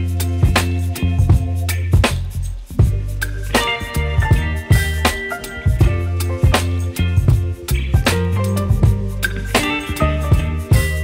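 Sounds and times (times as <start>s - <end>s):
music with drum beat and bass: 0.0s - 11.0s.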